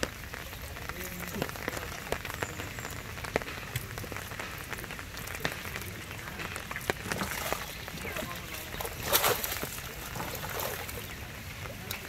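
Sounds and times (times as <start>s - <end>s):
rain drops ticking on wood: 0.0s - 12.0s
rain falling on water: 0.0s - 12.0s.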